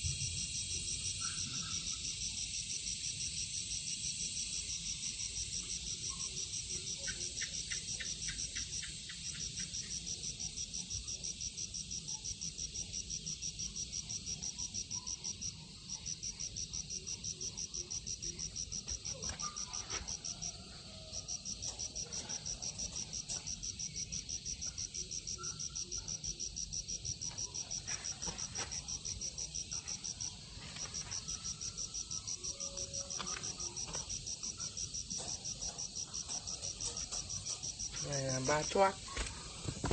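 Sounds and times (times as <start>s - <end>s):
insect trilling: 0.0s - 39.9s.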